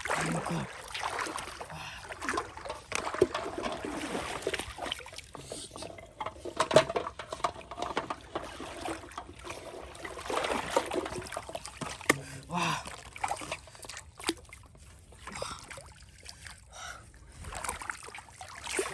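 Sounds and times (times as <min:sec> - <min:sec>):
water splashing: 0:00.0 - 0:05.6, 0:07.8 - 0:16.5, 0:17.4 - 0:18.9.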